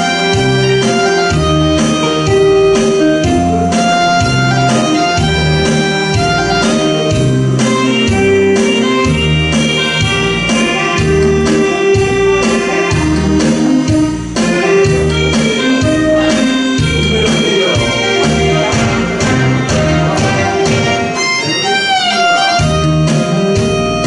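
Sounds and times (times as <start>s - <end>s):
trot music with bass beat: 0.0s - 24.0s.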